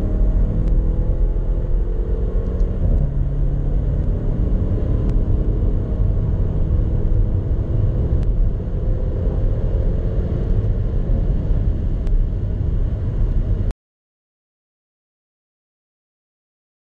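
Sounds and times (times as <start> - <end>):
car engine and road rumble: 0.0 - 13.7.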